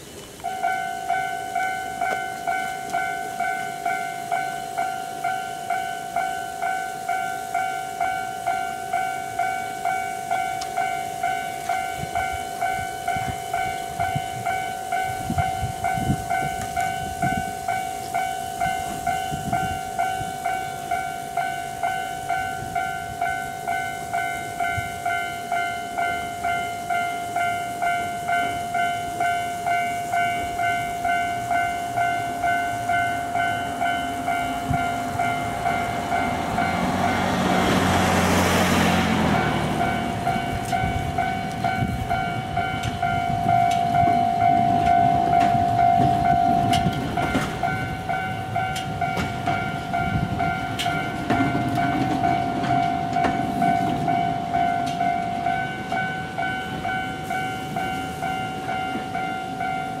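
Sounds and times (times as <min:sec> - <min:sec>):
cable car rumbling and clacking: 0:00.0 - 1:00.0
level crossing bell dinging: 0:00.4 - 1:00.0.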